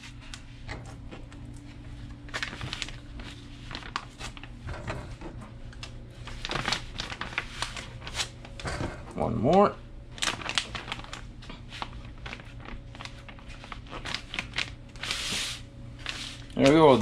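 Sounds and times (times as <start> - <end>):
low steady hum: 0.0 - 17.0
plastic bag crinkling: 2.1 - 4.7, 5.7 - 17.0.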